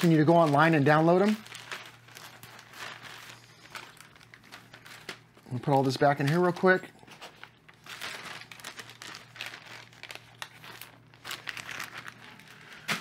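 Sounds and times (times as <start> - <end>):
plastic bags and paper crinkling: 0.0 - 13.0.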